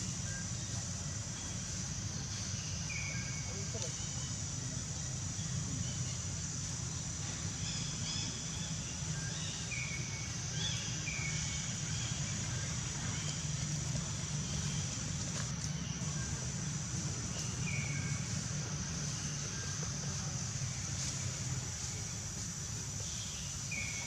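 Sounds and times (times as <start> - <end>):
low steady rumble: 0.0 - 24.0
steady high hiss: 0.0 - 24.0.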